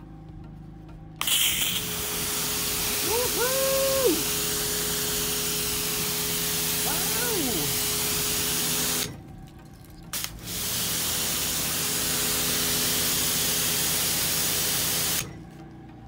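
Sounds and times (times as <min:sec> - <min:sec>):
pressure washer spraying: 0:01.2 - 0:09.2, 0:10.1 - 0:15.3.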